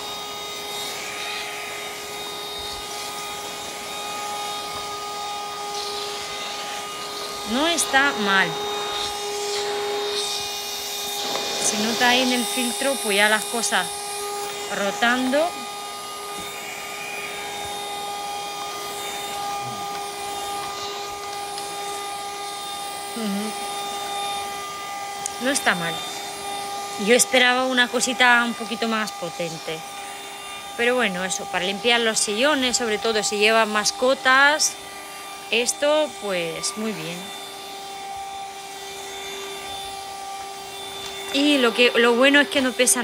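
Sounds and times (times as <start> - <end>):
handheld vacuum cleaner running: 0.0 - 43.0.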